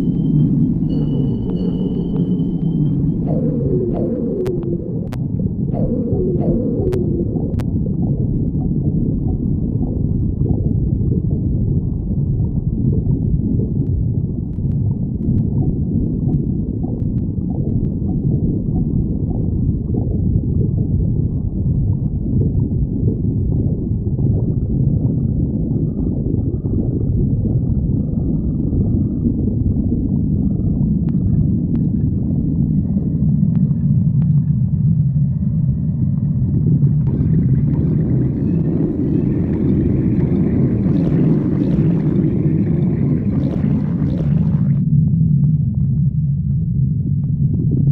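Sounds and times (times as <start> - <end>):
squeaky stomach gurgles: 0.0 - 44.9
stomach growling: 0.0 - 47.9.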